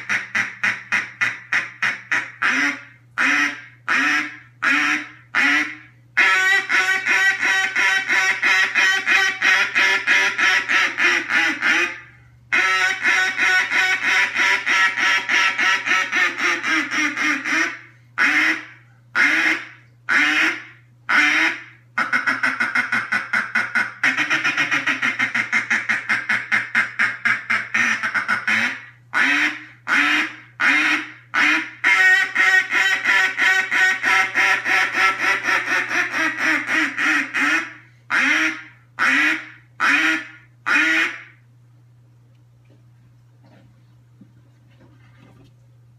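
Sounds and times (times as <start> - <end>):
duck call quacks: 0.0 - 41.4.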